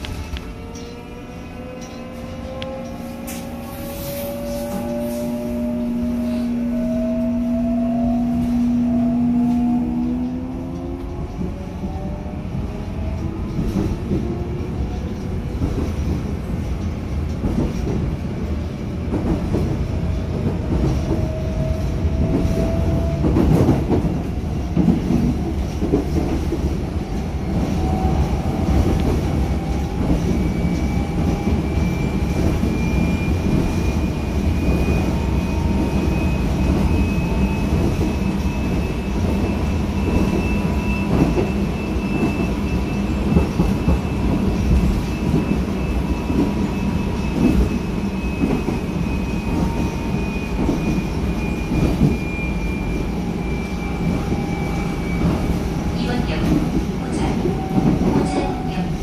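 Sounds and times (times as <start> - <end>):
train inverter whine: 0.0 - 59.0
train wheels rumbling on rail: 0.0 - 59.0.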